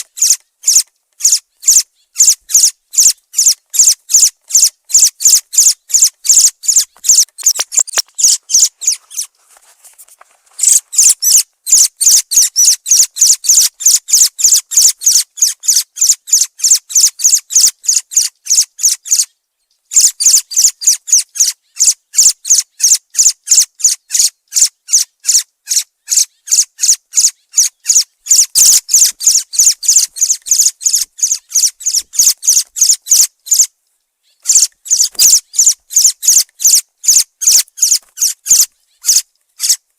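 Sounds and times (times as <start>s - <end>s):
thrush calls: 0.0s - 9.4s, 10.5s - 19.3s, 19.9s - 39.8s.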